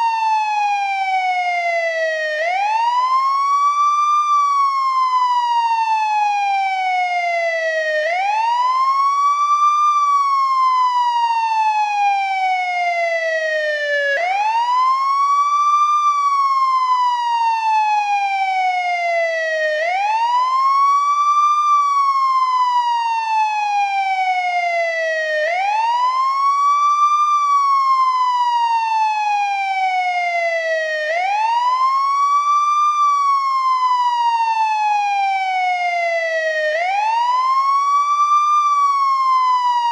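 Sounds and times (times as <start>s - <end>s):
ambulance wail siren: 0.0s - 39.9s.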